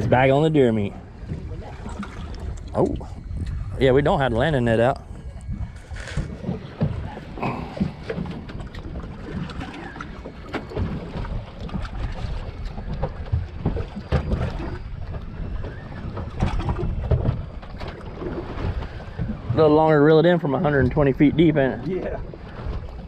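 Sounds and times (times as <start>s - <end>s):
water slapping boat hull: 0.0s - 23.0s
wind buffeting microphone: 0.0s - 23.0s.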